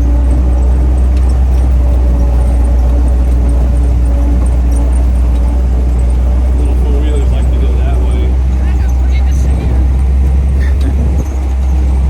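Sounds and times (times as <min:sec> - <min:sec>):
jeep engine rumbling: 0:00.0 - 0:12.0.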